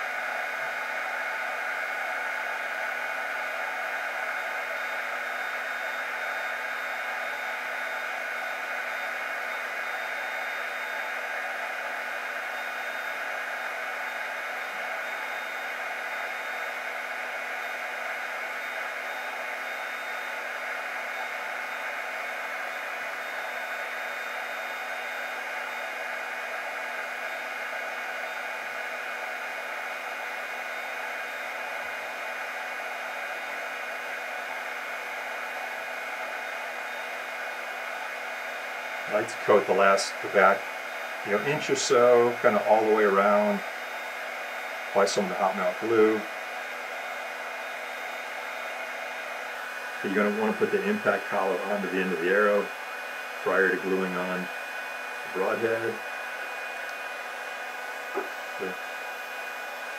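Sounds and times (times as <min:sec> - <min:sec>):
faint steady whine: 0:00.0 - 0:59.9
heat gun blowing air: 0:00.2 - 0:59.9.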